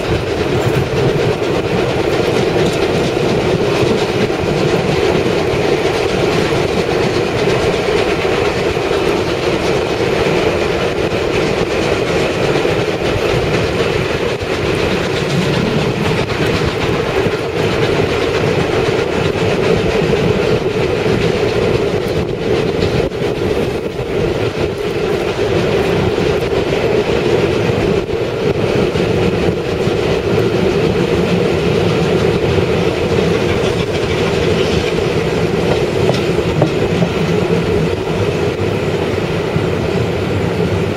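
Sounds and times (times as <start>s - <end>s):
wheels clattering over rails: 0.0s - 40.0s
train rumbling: 0.0s - 40.9s.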